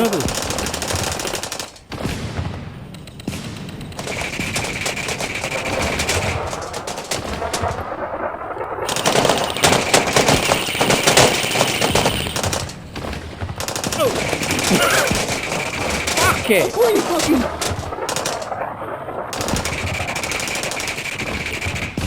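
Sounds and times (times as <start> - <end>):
airsoft guns firing bursts: 0.0 - 22.0.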